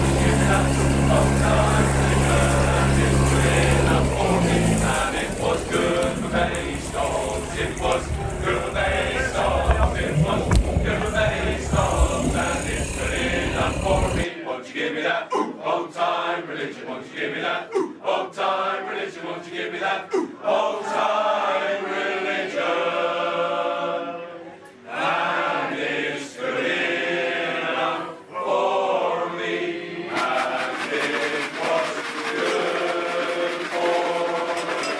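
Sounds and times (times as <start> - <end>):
male choir singing in harmony: 0.0 - 34.9.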